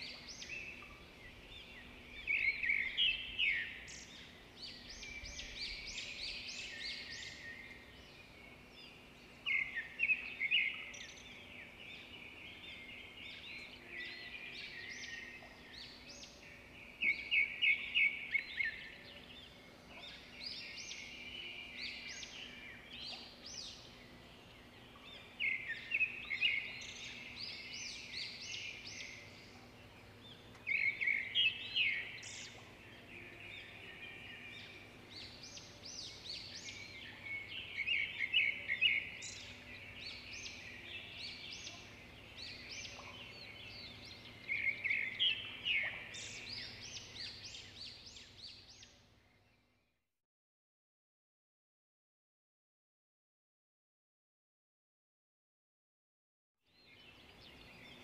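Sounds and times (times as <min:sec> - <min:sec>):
quiet bird twittering: 0:00.0 - 0:49.6
birds singing: 0:00.0 - 0:49.7, 0:56.7 - 0:58.0.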